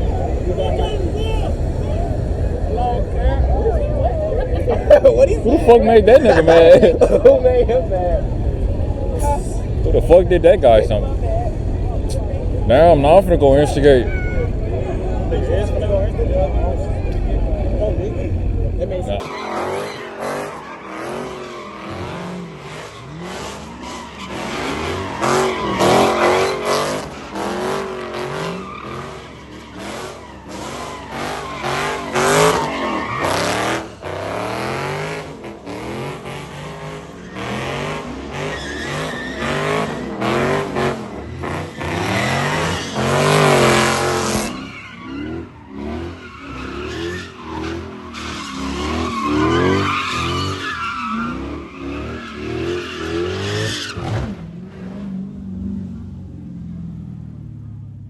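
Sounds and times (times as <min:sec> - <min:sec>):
tyres squealing on pavement: 0:00.0 - 0:54.3
car engine revving: 0:00.0 - 0:58.0.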